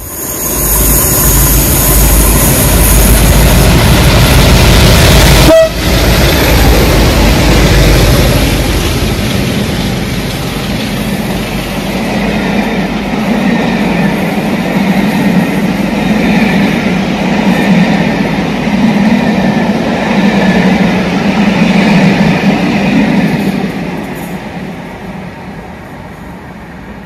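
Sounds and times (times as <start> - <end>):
diesel locomotives running past: 0.0 - 27.0.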